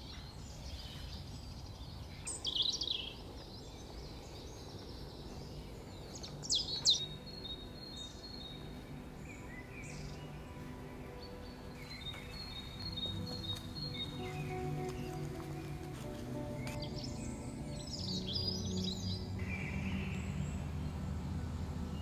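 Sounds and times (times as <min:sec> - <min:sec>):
soft ambient music: 0:00.0 - 0:22.0
woodland birds calling: 0:00.0 - 0:22.0.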